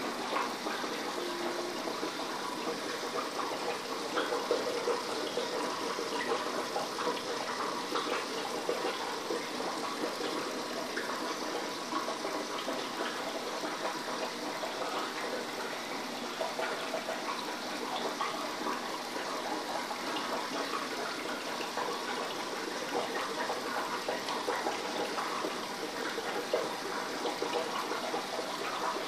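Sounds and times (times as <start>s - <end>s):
aquarium water trickling: 0.0s - 29.0s.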